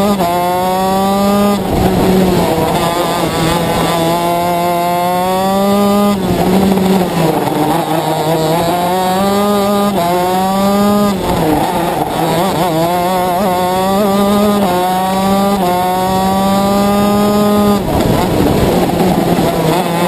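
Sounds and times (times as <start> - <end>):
kart engine revving: 0.0 - 20.0.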